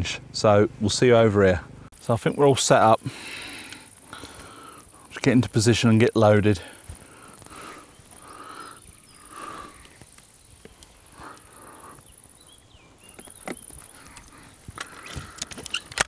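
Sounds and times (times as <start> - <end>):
insects chirring: 1.9 - 16.0.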